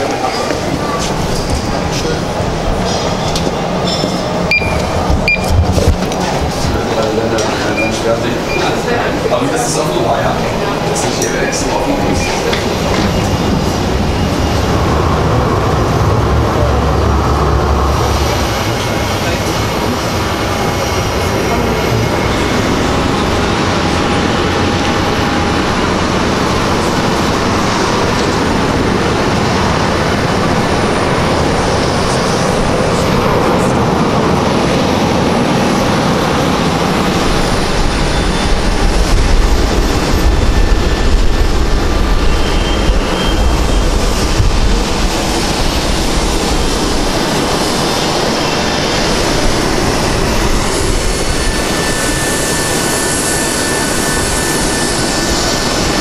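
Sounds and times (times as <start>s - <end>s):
jet aircraft noise: 0.0s - 56.0s.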